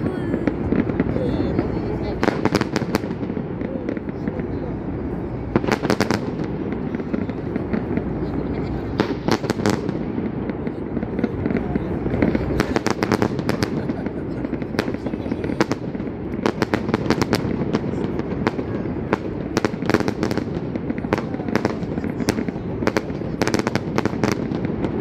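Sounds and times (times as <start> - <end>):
fireworks popping and banging: 0.0 - 25.0
low background noise: 0.0 - 25.0.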